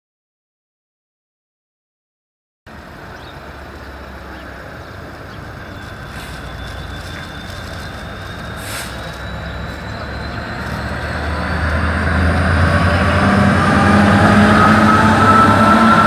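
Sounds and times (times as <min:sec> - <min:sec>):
high whine: 0:02.7 - 0:16.0
locomotive engine drone: 0:02.7 - 0:16.0.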